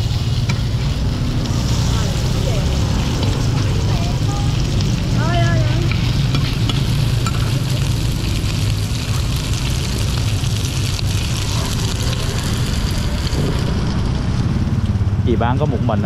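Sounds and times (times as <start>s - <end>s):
food sizzling in hot oil: 0.0s - 15.2s
steady low rumble: 0.0s - 16.0s.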